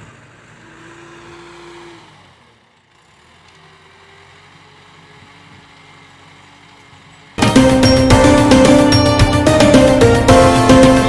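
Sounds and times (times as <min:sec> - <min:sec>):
faint tractor engines running: 0:00.0 - 0:11.0.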